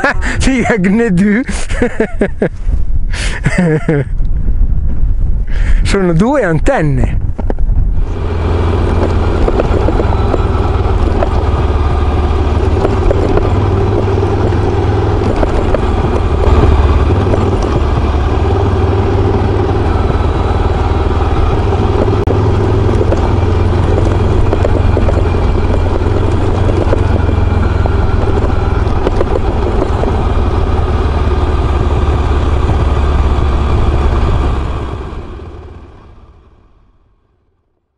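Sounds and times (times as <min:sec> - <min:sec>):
motorcycle engine running: 0:07.2 - 0:37.9.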